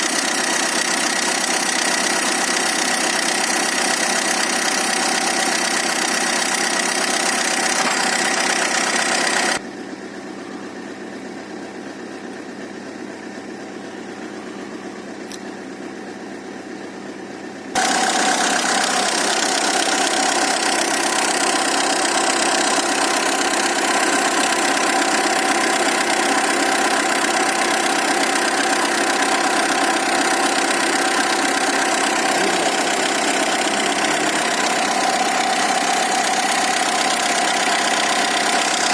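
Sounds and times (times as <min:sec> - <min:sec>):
car engine running steadily: 0:00.0 - 0:38.9.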